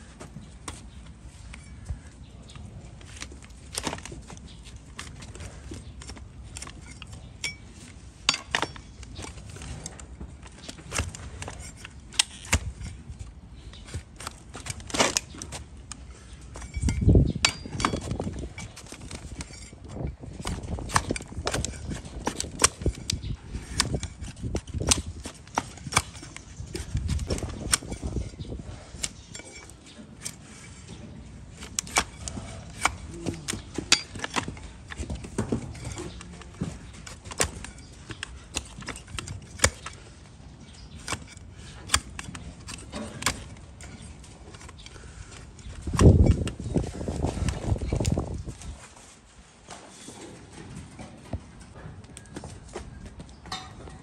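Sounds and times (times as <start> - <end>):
hooves clicking and cracking: 0.0 - 54.0.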